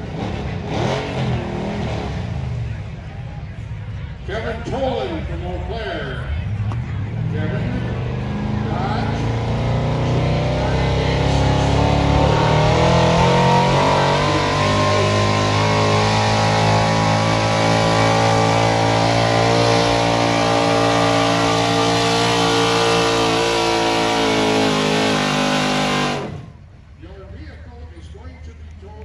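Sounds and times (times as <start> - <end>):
pickup engine at full throttle: 0.0 - 4.3, 6.3 - 26.6.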